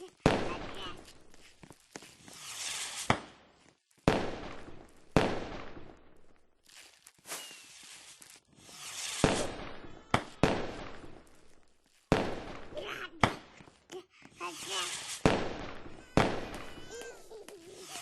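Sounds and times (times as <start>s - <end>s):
fireworks bangs: 0.0s - 6.6s, 7.2s - 13.8s, 14.4s - 18.0s
rising hiss of fireworks: 0.0s - 18.0s.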